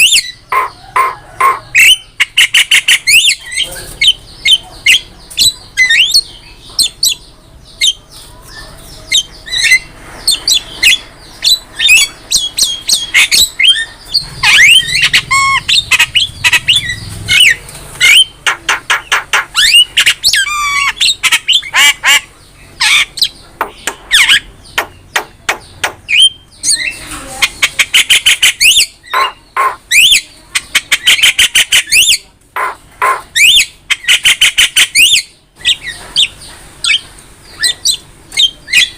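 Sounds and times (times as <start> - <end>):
bird squawks chirps and whistles: 0.0 - 7.2, 9.2 - 23.3, 26.1 - 37.0.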